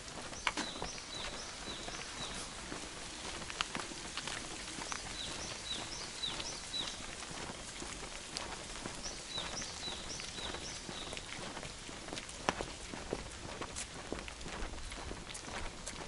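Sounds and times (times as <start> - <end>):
footsteps on wet pavement: 0.0 - 16.0
rain hissing and dripping: 0.0 - 16.0.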